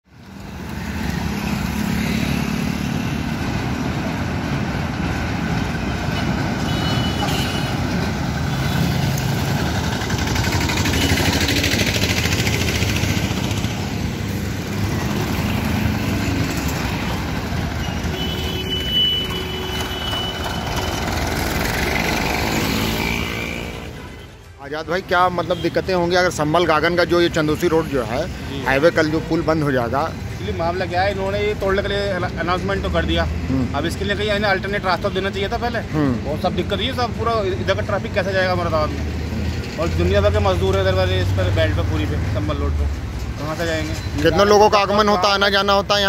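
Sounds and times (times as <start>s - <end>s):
traffic passing: 0.1s - 46.0s.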